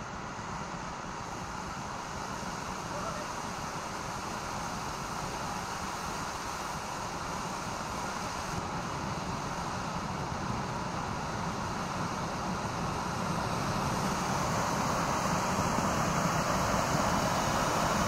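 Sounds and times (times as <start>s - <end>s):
firework fountain hissing: 0.0s - 18.0s.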